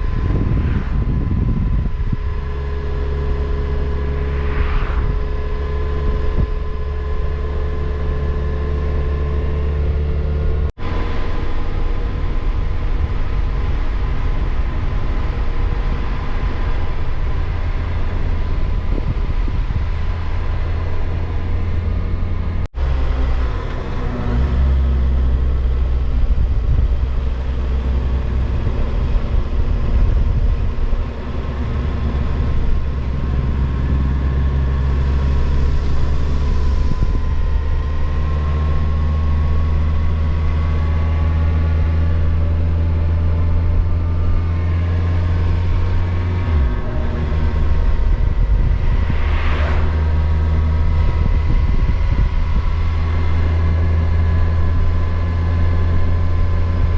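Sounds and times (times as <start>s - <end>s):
wind on microphone: 0.0s - 7.5s, 11.9s - 22.7s, 24.3s - 56.9s.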